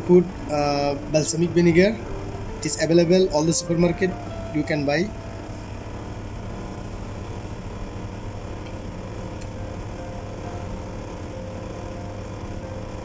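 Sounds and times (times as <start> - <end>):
kitchen ventilation hum: 0.0 - 13.0.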